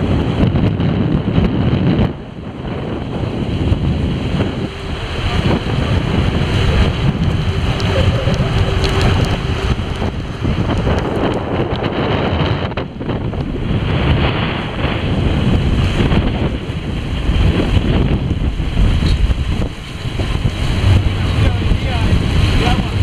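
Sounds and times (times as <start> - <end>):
water rushing along hull: 0.0 - 23.0
wind buffeting microphone: 0.0 - 23.0.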